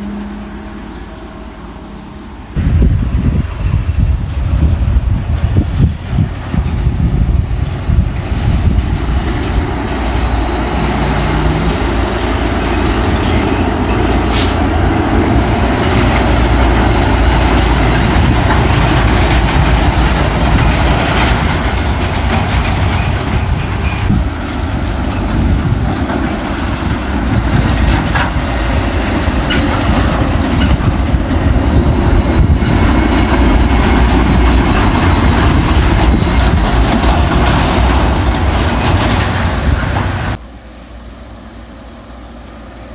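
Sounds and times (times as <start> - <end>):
diesel truck engine rumbling: 0.0 - 42.9
road noise: 0.0 - 42.9.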